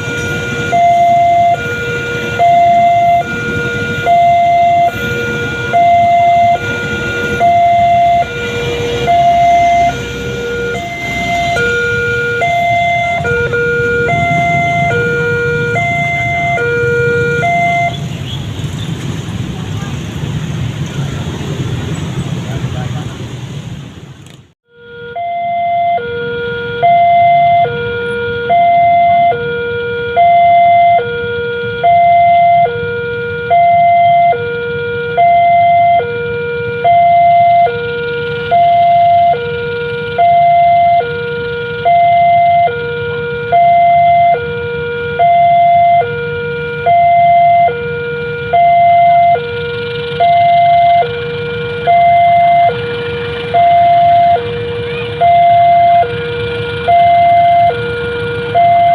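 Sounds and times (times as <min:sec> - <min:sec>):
level crossing two-tone alarm: 0:00.0 - 0:18.1, 0:24.8 - 0:58.9.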